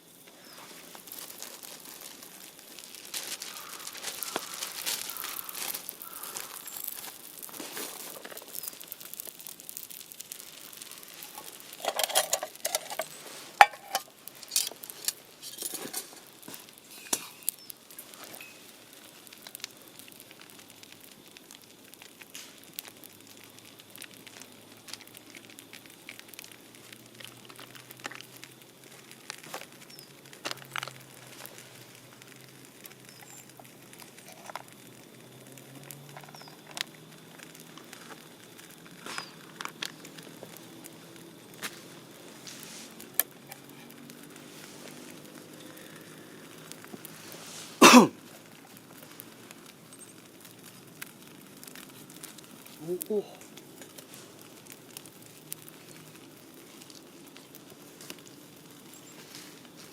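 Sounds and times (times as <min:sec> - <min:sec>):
crinkling: 0:00.0 - 0:59.9.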